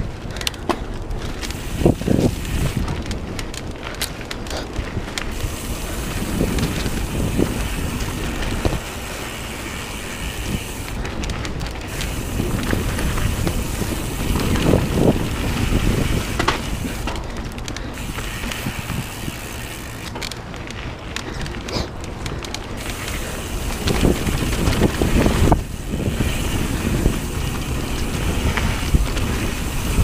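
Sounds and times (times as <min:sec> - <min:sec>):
bike rattling: 0:00.0 - 0:30.0
bike tyres rumbling on dirt: 0:00.0 - 0:30.0
wind buffeting microphone: 0:00.0 - 0:30.0.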